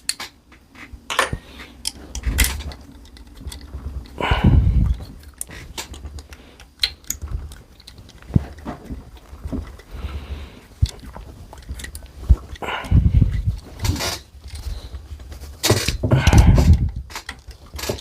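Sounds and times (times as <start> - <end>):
small metal parts clicking: 0.0 - 0.4, 1.1 - 4.2, 4.8 - 10.0, 10.6 - 18.0.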